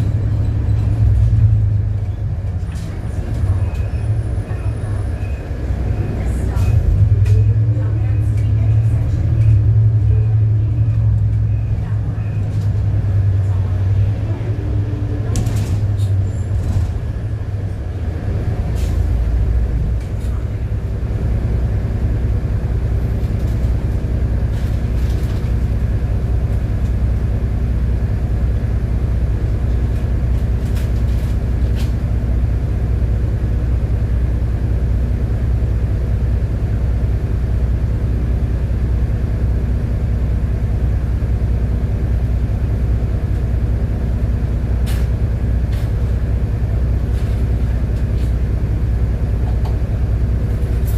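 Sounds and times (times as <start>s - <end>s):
bus engine and road drone: 0.0s - 50.9s.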